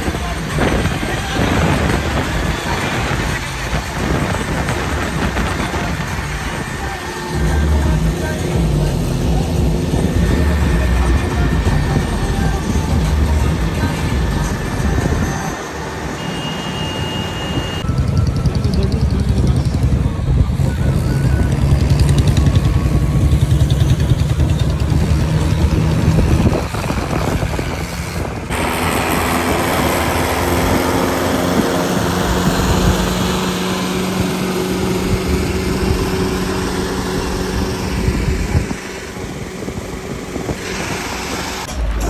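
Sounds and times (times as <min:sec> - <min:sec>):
diesel tractor engines running: 0:00.0 - 0:42.0
passing vehicles: 0:00.0 - 0:42.0.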